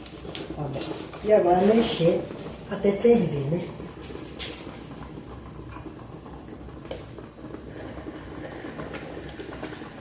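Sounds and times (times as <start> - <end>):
low steady background hum: 0.0 - 10.0.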